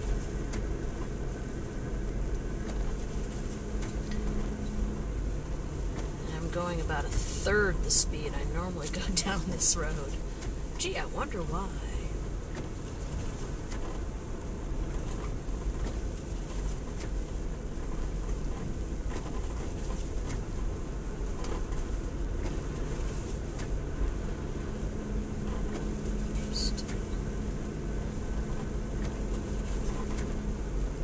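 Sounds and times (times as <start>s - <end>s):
engine and tyres rumbling: 0.0s - 31.0s
steady hum: 0.0s - 31.0s.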